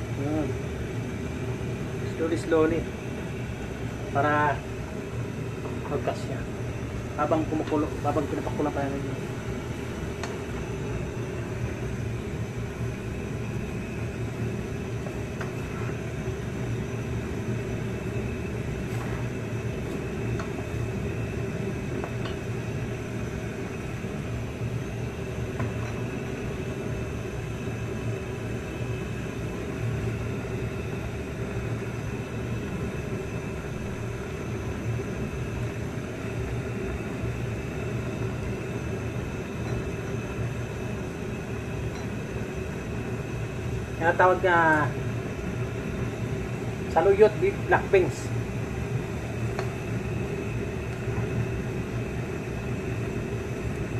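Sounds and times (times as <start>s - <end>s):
machine hum and rumble: 0.0s - 53.9s.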